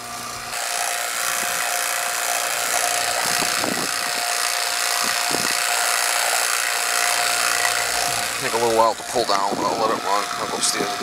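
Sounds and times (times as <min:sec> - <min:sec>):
vacuum pump running: 0:00.0 - 0:11.0.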